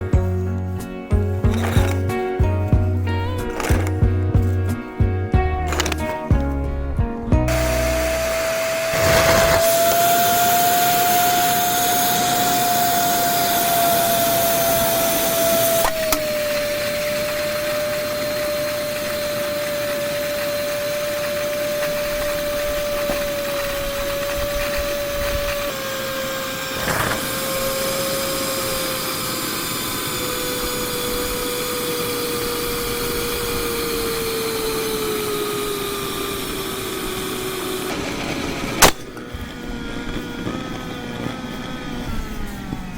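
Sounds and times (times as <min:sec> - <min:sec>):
vacuum cleaner motor whine: 0:00.0 - 0:02.4, 0:03.0 - 0:05.0, 0:05.7 - 0:06.4, 0:07.4 - 0:42.9.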